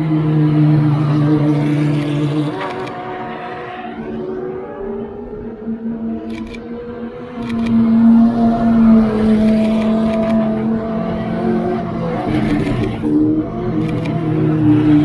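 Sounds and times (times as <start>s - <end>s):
car engines at low revs: 0.0s - 15.0s.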